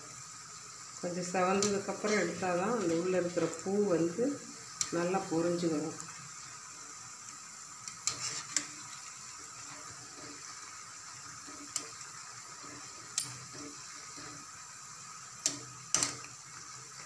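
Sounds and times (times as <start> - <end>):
fritters sizzling in oil: 0.0 - 17.0.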